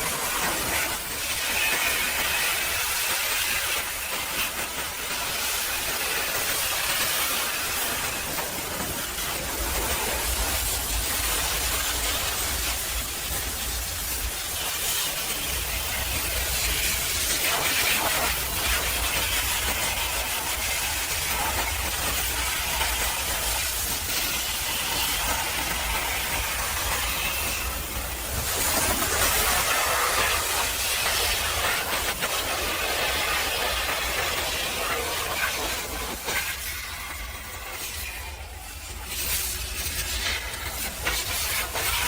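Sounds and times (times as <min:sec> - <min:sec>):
pressure washer spraying water: 0:00.0 - 0:42.0.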